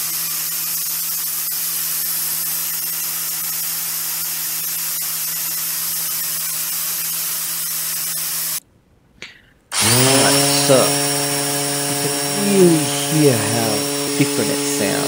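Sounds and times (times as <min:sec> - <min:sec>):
angle grinder motor hum: 0:00.0 - 0:08.6, 0:09.7 - 0:15.0.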